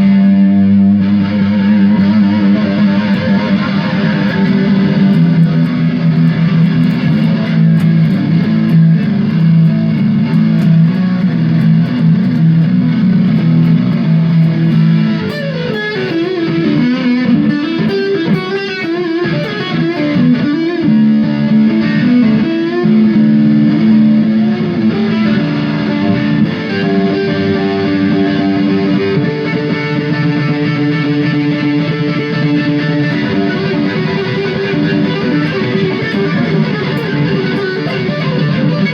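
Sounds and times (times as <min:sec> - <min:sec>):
electric guitar through amplifier: 0:00.0 - 0:38.9.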